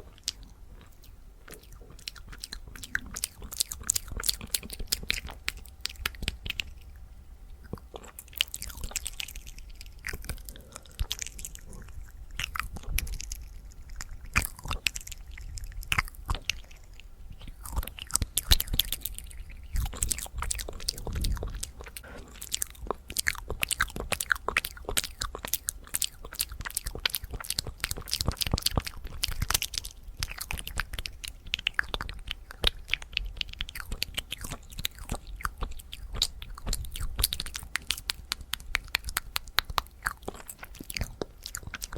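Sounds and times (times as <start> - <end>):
wet mouth clicks and tongue smacks: 0.0 - 7.0, 7.6 - 41.9.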